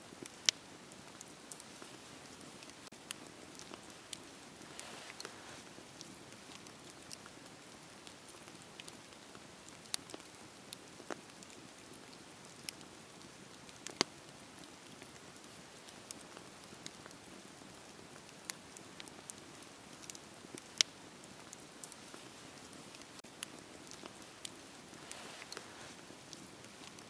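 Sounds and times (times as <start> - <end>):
low steady hiss: 0.0 - 27.0
wood fire crackling and popping: 0.1 - 27.0.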